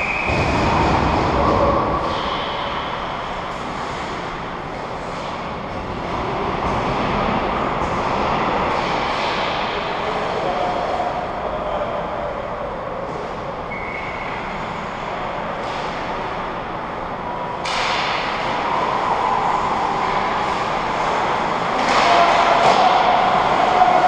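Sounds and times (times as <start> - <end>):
echoing ice rink noise: 0.0 - 24.0.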